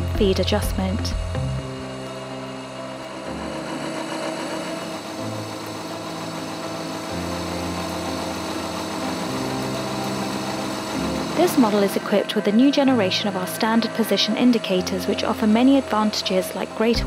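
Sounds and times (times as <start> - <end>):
background music with bass: 0.0 - 17.0
milling machine whine: 0.0 - 17.0.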